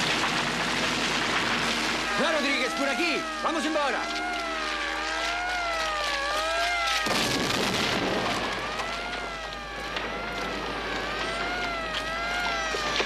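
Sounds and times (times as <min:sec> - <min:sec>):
alarm siren wailing: 0:00.0 - 0:13.0.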